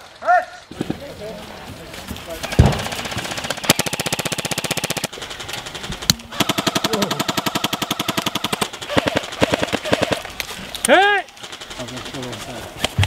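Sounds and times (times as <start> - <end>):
airsoft rifle firing bursts: 2.4 - 13.0.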